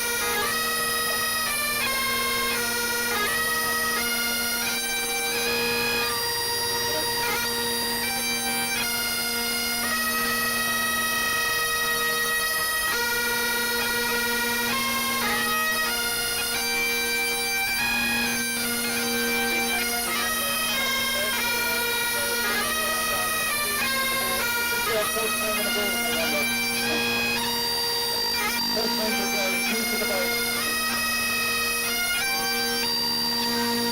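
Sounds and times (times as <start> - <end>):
bagpipes playing a tune: 0.0 - 33.9.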